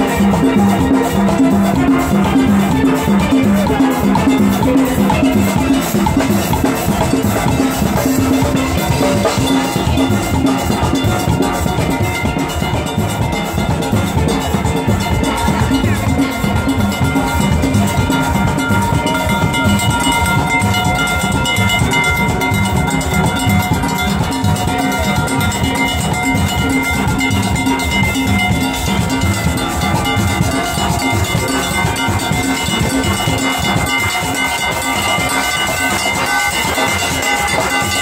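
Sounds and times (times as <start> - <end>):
drum kit beat: 0.0 - 38.0.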